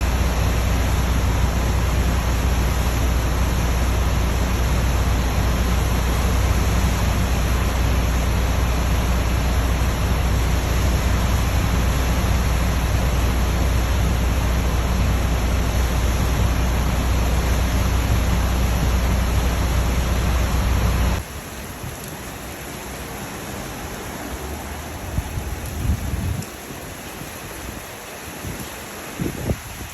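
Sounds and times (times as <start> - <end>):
torrential rain rushing: 0.0 - 29.9.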